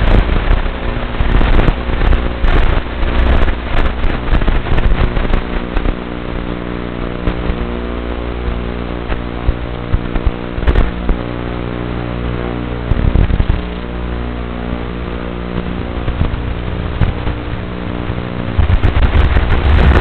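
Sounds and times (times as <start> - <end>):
crackling radio static: 0.0 - 20.0.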